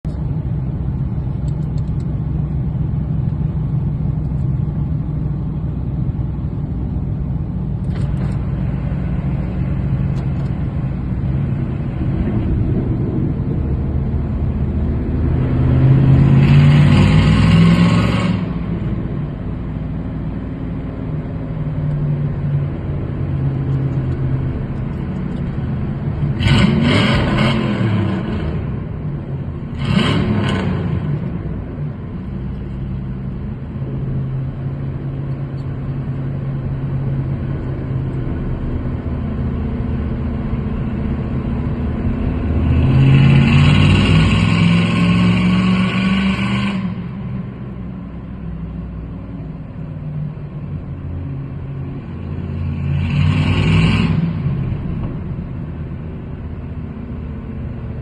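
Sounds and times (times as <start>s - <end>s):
car engine and exhaust revving: 0.0s - 58.0s.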